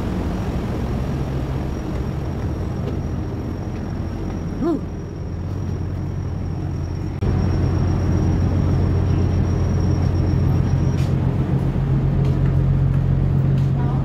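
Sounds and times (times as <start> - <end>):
ferry machinery drone: 0.0 - 14.0.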